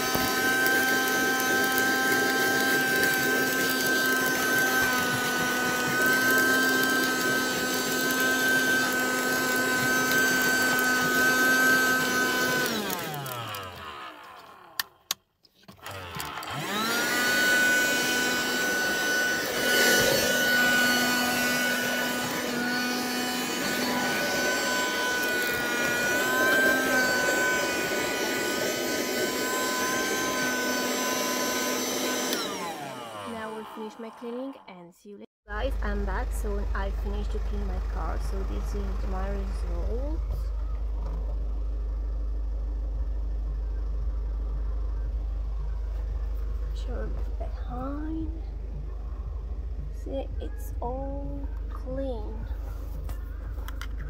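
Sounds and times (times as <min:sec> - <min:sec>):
car vacuum cleaner motor running: 0:00.0 - 0:34.2, 0:35.7 - 0:54.0.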